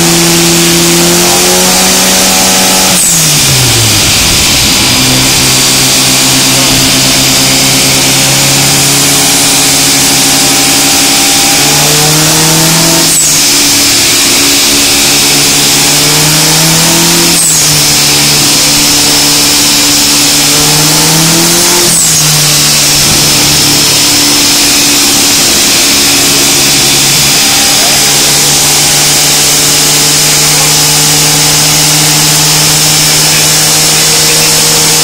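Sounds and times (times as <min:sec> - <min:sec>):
car engine revving on dynamometer: 0:00.0 - 0:35.0.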